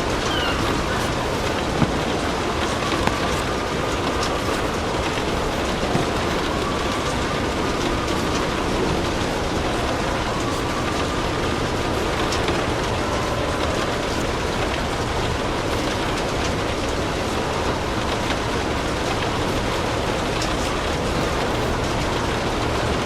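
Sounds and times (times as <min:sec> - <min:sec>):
fireplace fire crackling: 0:00.0 - 0:23.0
steady rain: 0:00.0 - 0:23.0.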